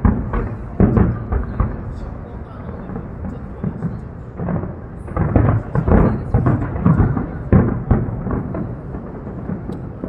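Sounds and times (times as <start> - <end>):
fireworks booming: 0.0 - 10.0.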